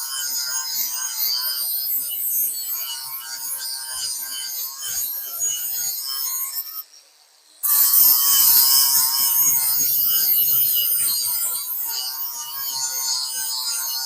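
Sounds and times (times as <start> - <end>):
sanding on steel frame: 0.0 - 6.8, 7.6 - 14.0.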